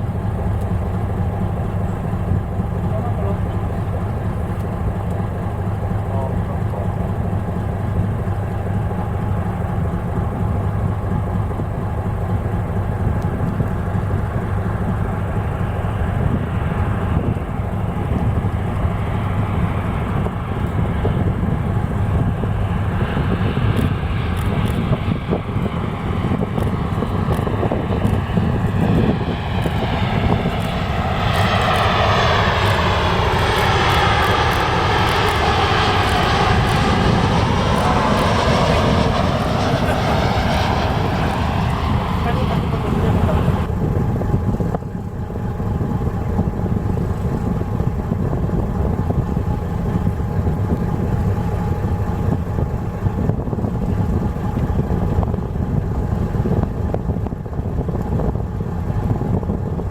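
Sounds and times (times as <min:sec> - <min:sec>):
boat engine humming: 0:00.0 - 0:59.9
jet airliner engine whine: 0:00.0 - 0:59.9.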